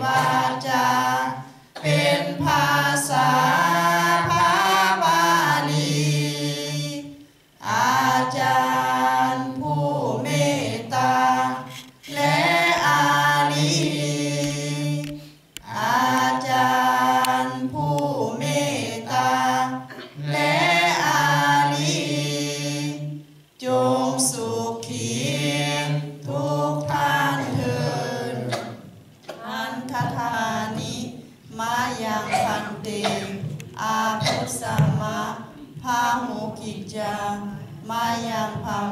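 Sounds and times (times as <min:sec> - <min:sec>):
group chanting in unison: 0:00.0 - 0:38.9.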